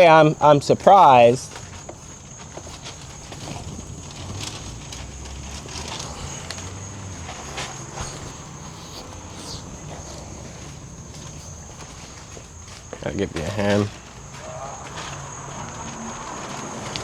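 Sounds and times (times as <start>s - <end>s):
footsteps: 0.0s - 17.0s
insects droning: 0.0s - 17.0s.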